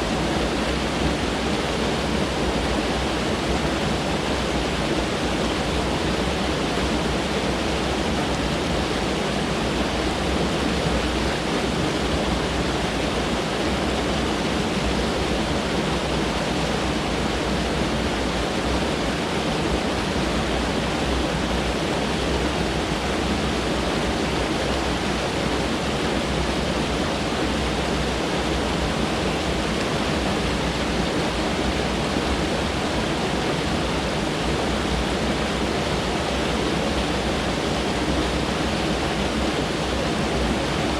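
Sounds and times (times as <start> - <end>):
mountain stream flowing: 0.0 - 40.9.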